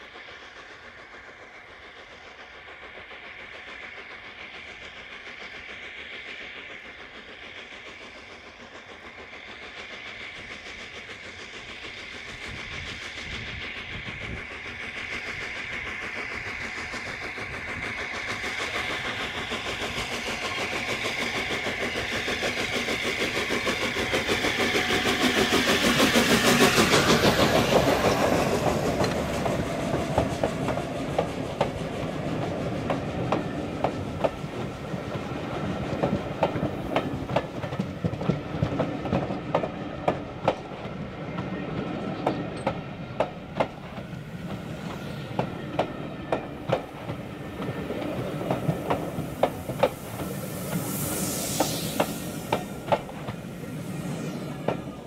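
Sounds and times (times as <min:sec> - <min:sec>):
steam locomotive exhaust beats: 0:00.0 - 0:55.0
train wheels clicking on rail joints: 0:00.0 - 0:55.0.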